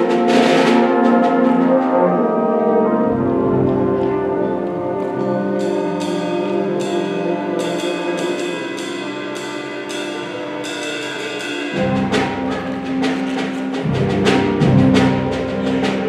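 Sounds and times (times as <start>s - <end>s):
concert band playing: 0.0s - 16.0s.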